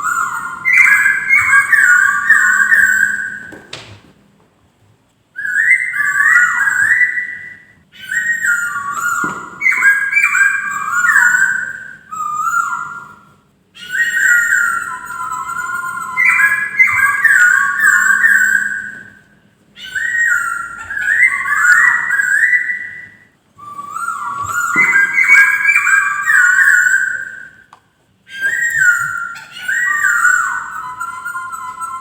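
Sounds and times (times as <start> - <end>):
bird whistling phrases: 0.0 - 3.7, 5.4 - 27.7, 28.3 - 32.0.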